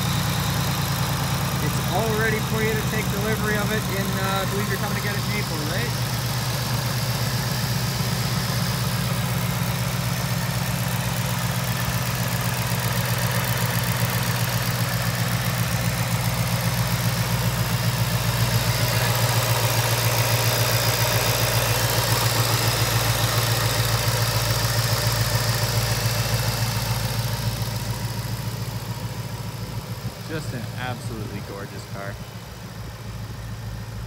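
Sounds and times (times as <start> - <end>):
supercharged car engine idling: 0.0 - 34.0.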